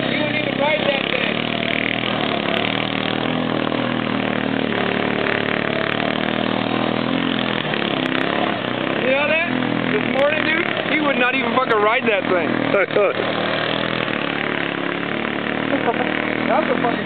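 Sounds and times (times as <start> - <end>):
quad bike engines running: 0.0 - 17.0.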